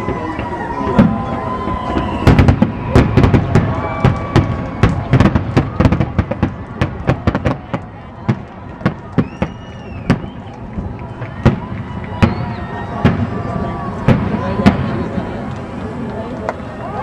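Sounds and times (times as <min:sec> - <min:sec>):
fireworks bursting with sharp bangs: 0:00.0 - 0:16.7.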